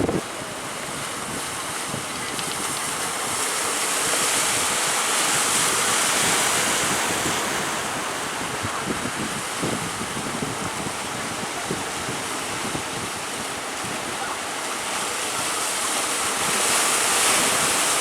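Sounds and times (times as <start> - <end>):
sea waves breaking: 0.0 - 18.0
wind buffeting microphone: 0.0 - 18.0.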